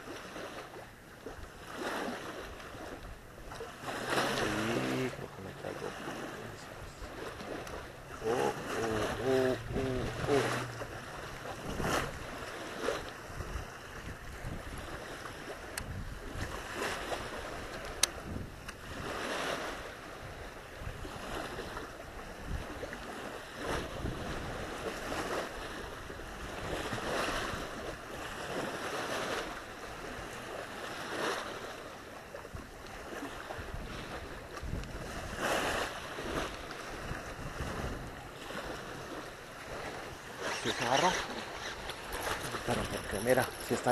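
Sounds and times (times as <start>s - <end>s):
wind on microphone: 0.0s - 29.4s, 32.4s - 43.9s
waves lapping on shore: 0.0s - 43.9s.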